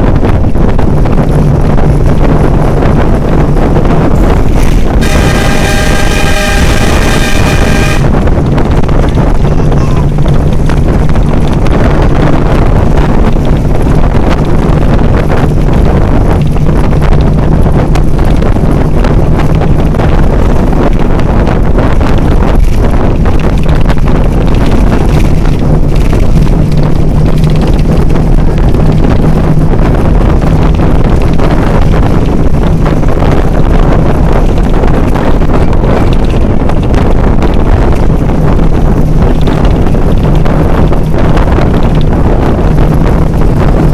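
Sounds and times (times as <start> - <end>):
low engine hum: 0.0 - 43.9
wind noise on microphone: 0.0 - 43.9.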